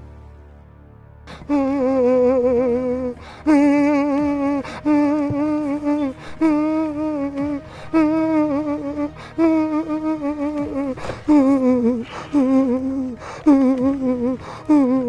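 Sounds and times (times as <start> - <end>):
person humming melody: 1.3 - 15.0.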